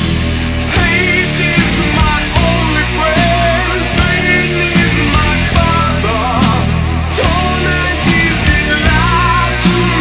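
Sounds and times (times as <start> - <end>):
doom metal band playing: 0.0 - 10.0
man singing with vibrato: 0.7 - 10.0.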